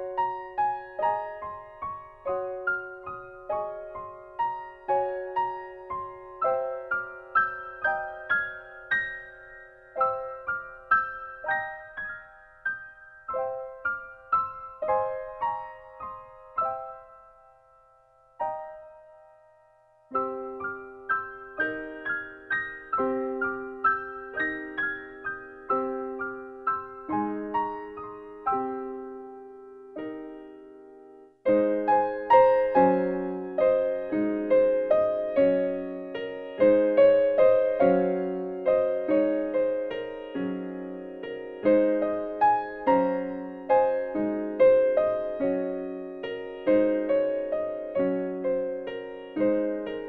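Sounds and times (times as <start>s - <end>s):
gentle keyboard music: 0.0s - 50.0s.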